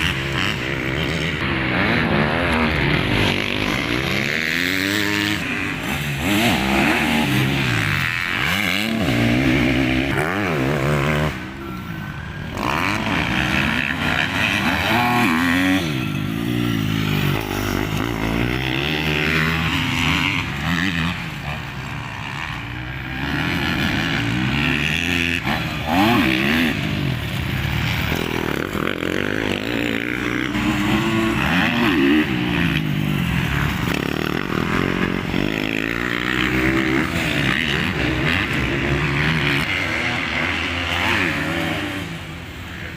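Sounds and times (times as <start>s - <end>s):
motocross bikes revving: 0.0s - 42.9s.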